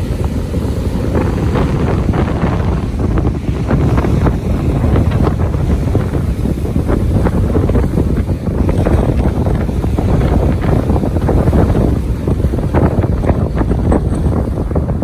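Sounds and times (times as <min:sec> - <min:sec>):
wind blasting microphone: 0:00.0 - 0:15.0.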